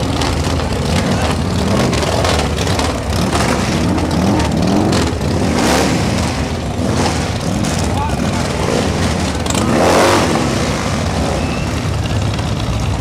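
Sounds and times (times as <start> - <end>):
motorcycle engines revving: 0.0 - 13.0
motorcycle engines rumbling: 0.0 - 13.0.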